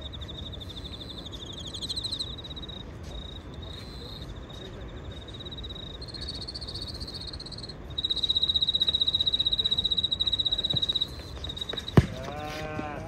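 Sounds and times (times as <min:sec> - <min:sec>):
pea whistle trilling: 0:00.1 - 0:04.3, 0:05.2 - 0:12.0.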